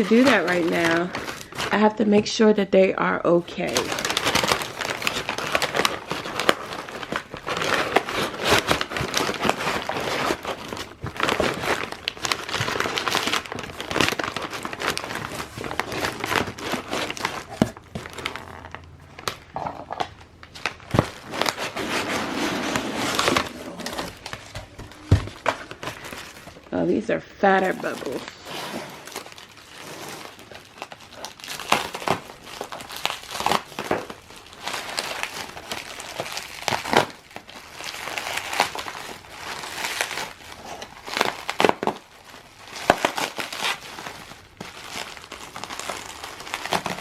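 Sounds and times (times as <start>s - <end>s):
bubble wrap crinkling: 0.0s - 2.4s, 3.4s - 47.0s.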